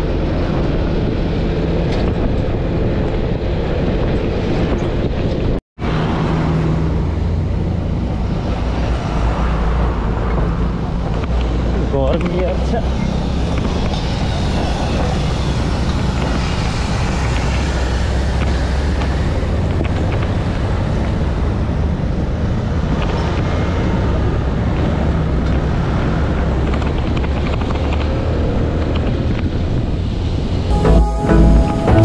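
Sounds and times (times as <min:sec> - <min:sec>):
wind buffeting microphone: 0:00.0 - 0:30.7.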